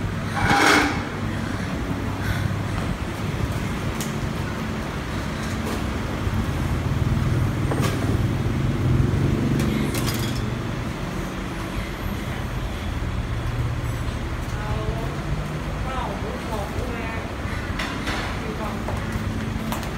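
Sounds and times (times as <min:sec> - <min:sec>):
vehicle engine rumbling: 0:00.0 - 0:19.9.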